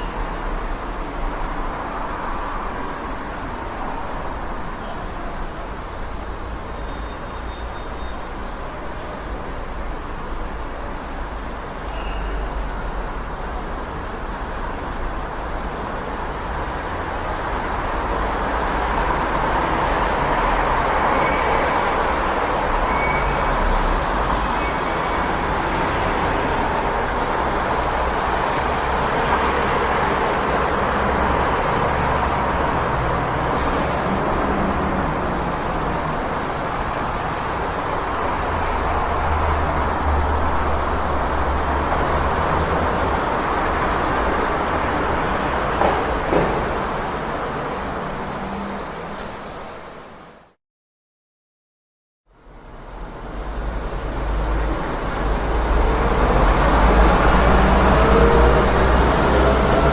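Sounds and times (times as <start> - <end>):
passing cars: 8.3 - 50.5, 52.7 - 59.9.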